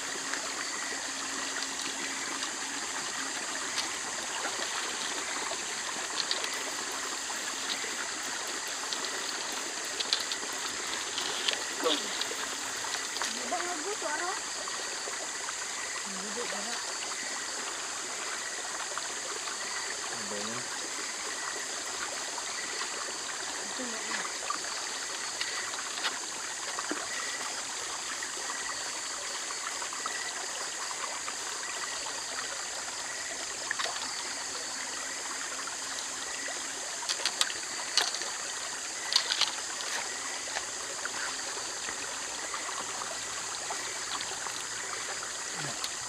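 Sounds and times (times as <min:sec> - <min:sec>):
rocky stream running: 0:00.0 - 0:46.0.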